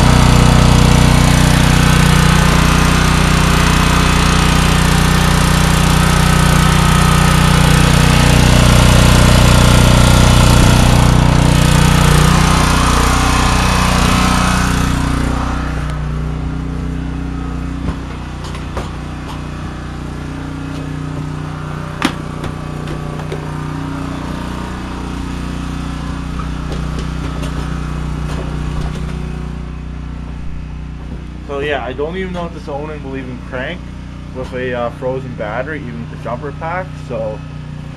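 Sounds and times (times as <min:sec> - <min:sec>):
small generator engine droning: 0:00.0 - 0:37.9.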